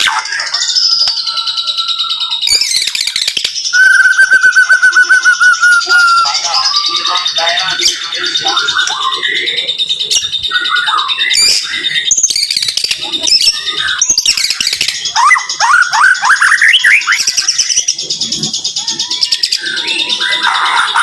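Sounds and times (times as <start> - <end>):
songbird singing whistles and chirps: 0.0 - 7.0, 7.8 - 21.0.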